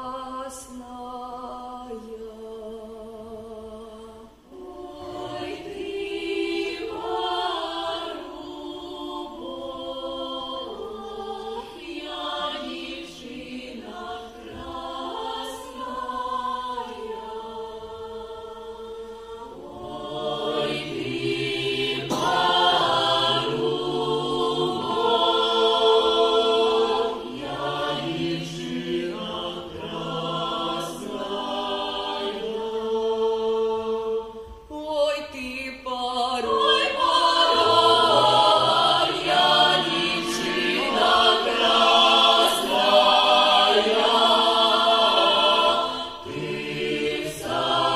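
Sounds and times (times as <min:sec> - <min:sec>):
women singing together: 0:00.0 - 0:47.9.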